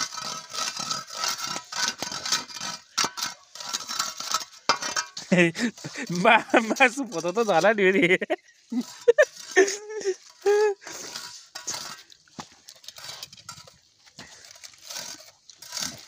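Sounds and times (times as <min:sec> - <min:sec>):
metal tool clinking and scraping: 0:00.0 - 0:16.0.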